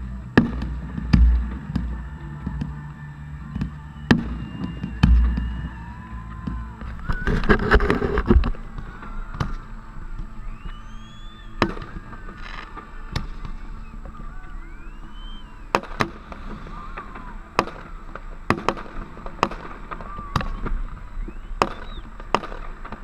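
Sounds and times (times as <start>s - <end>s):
fireworks crackling: 0.0s - 23.0s
fireworks whistling: 0.0s - 23.0s
fireworks sharp bangs: 0.3s - 23.0s.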